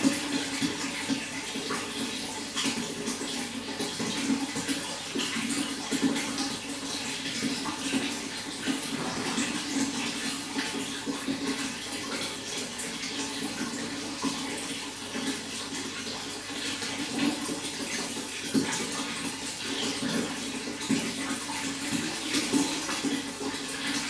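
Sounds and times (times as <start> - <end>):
running water splashing: 0.0 - 24.0.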